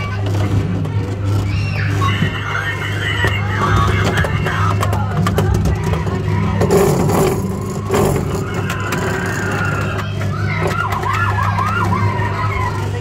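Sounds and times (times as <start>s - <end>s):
play centre background noise: 0.0s - 13.0s.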